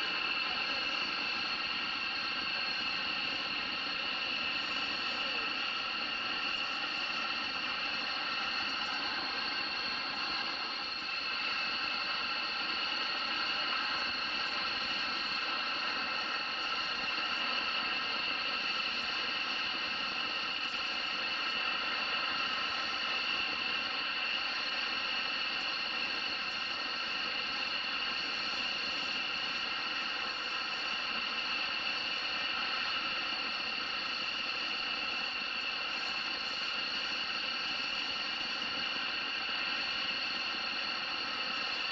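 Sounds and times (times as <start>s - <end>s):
jet turbine engine whine: 0.0s - 41.9s.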